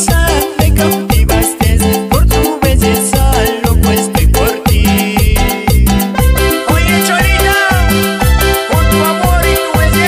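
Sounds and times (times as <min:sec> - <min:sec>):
sliding low bass notes: 0:00.1 - 0:09.6
melody with gliding notes: 0:00.3 - 0:10.0.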